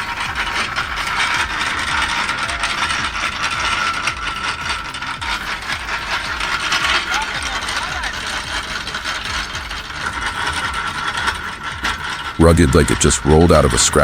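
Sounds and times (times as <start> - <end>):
steady machine whine: 0.0 - 14.0
wood splitter gears clattering: 0.0 - 14.0.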